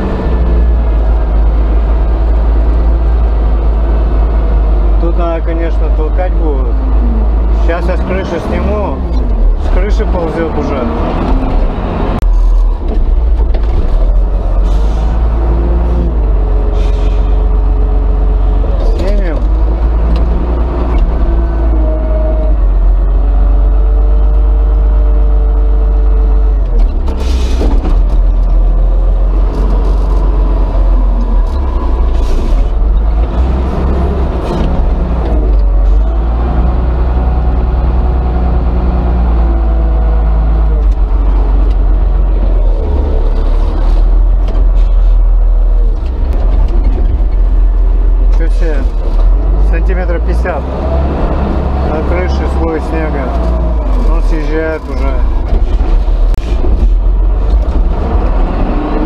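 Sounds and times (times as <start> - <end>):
diesel engine running hard: 0.0 - 59.0.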